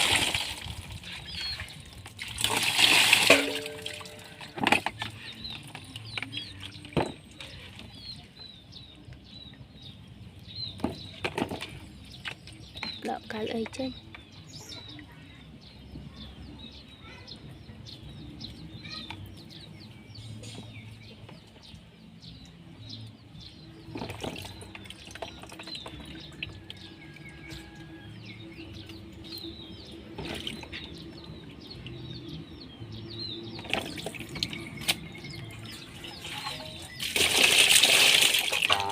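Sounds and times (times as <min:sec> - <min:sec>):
small birds chirping: 0:00.0 - 0:02.3, 0:03.8 - 0:38.9.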